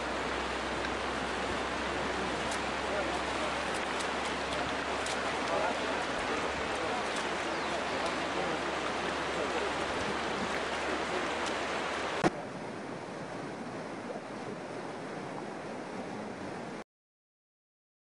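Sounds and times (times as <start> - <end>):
floodwater rushing: 0.0 - 16.8.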